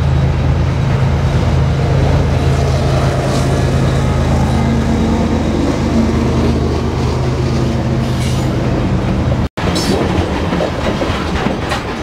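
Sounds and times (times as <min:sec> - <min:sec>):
diesel locomotive engine drone: 0:00.0 - 0:12.0
hopper cars rolling on rails: 0:00.0 - 0:12.0.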